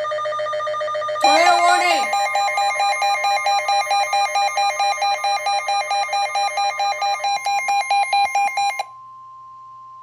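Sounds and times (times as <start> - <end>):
warbling emergency alert tone: 0.3 - 8.8.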